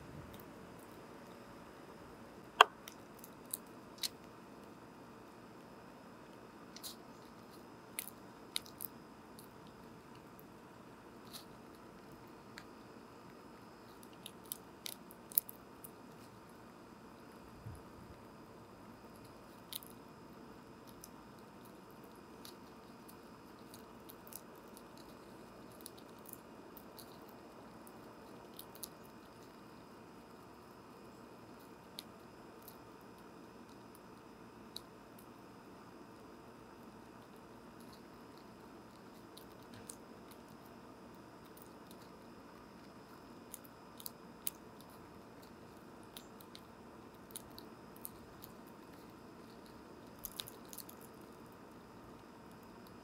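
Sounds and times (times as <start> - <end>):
squirrel chewing seeds: 0.0 - 53.0.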